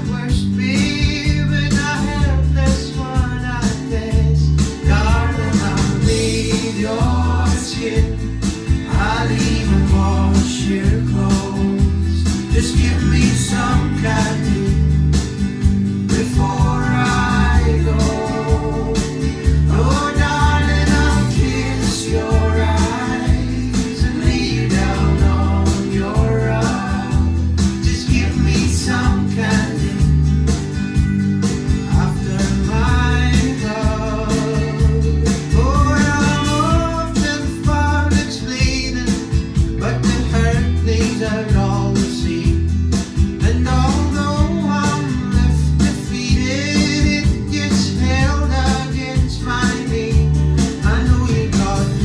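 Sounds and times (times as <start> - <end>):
man singing: 0.0 - 15.1, 16.0 - 30.4, 31.7 - 52.0
bass line: 0.0 - 52.0
guitar: 0.0 - 52.0
pop song over speakers: 0.0 - 52.0.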